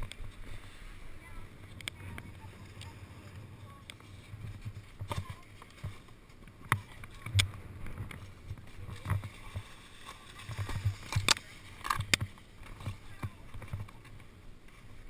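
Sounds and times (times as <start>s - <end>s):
snowboard and boots scuffing on snow: 0.0s - 15.0s.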